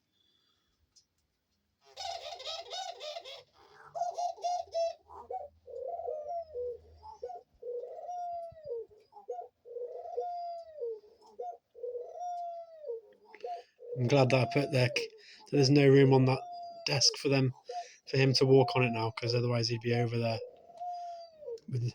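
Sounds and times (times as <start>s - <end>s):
dove cooing: 1.8s - 21.9s.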